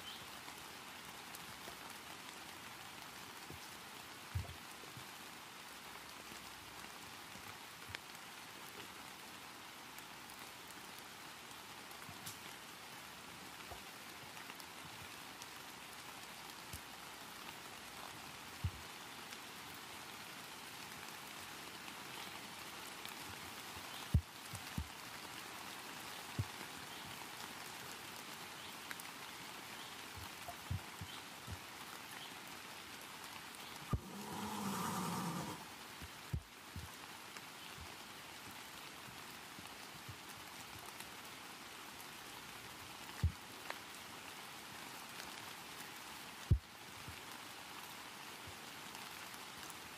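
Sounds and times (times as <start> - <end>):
rain hissing: 0.1 - 47.9.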